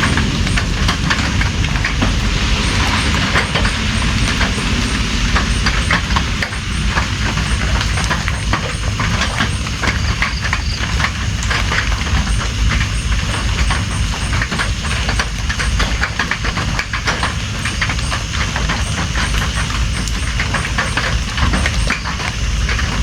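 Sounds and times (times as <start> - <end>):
raindrops tapping close by: 0.0 - 23.0
steady rain hissing: 0.0 - 23.0.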